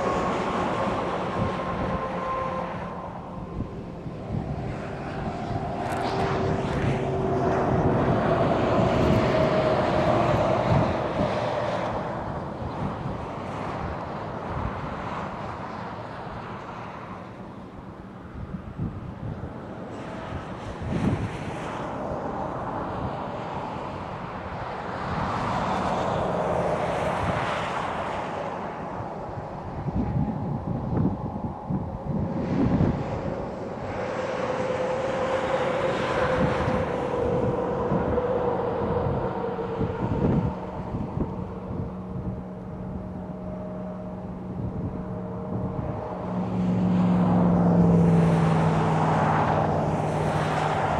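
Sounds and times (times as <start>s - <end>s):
car road and engine noise: 0.0s - 50.9s
low hum: 0.0s - 50.9s.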